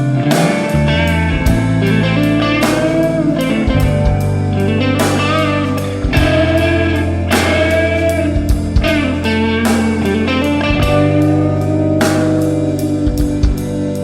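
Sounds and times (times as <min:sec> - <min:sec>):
pop punk band music: 0:00.0 - 0:14.0.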